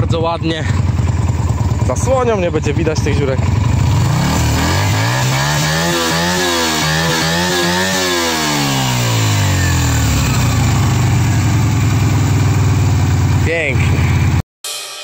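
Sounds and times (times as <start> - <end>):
motorcycle engine revving and idling: 0.0 - 14.4.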